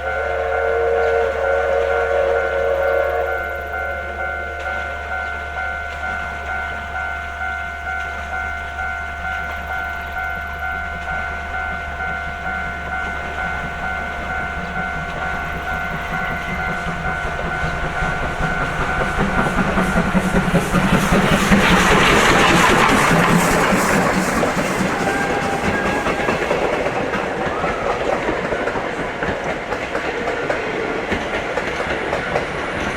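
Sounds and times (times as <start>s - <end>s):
railroad crossing bell ringing: 0.0s - 28.9s, 29.5s - 32.9s
train wheel clatter: 0.0s - 32.9s.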